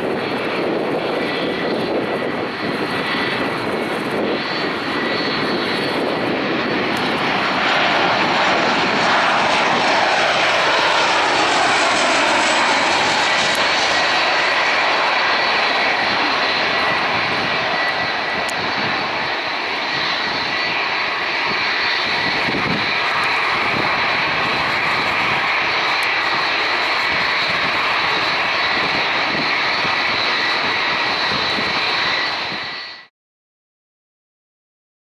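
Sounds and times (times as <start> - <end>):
jet engines running loud: 0.0 - 33.1.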